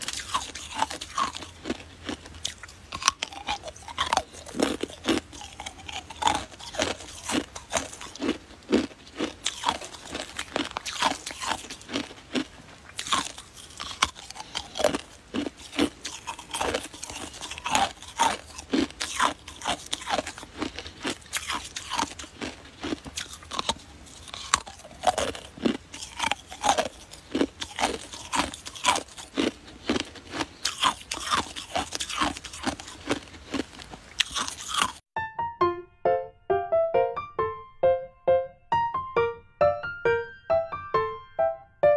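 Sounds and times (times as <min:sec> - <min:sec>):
person chewing ice: 0:00.0 - 0:35.1.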